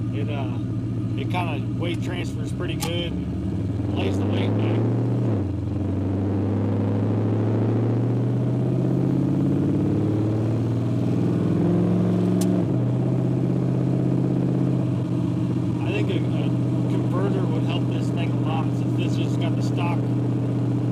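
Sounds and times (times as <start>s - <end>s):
engine accelerating from inside car: 1.2s - 20.9s.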